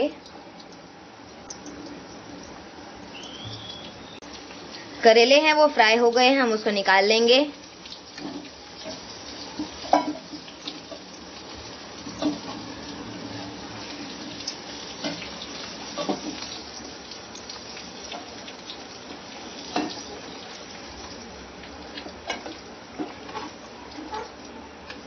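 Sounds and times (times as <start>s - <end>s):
hot oil sizzling: 0.0s - 25.0s.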